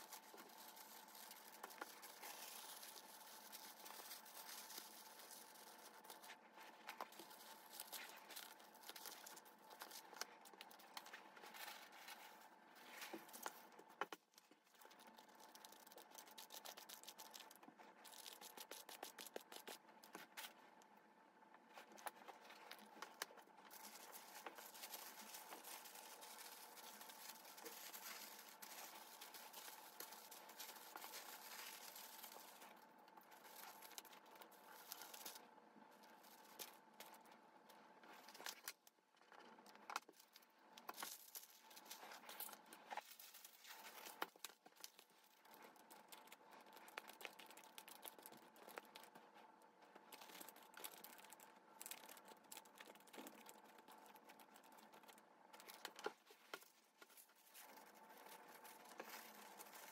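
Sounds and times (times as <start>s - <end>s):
wrapping paper rustling: 0.0s - 20.7s, 21.6s - 59.9s.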